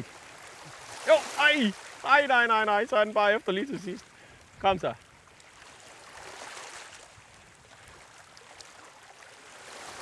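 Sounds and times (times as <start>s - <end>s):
small waves lapping: 0.0s - 10.0s.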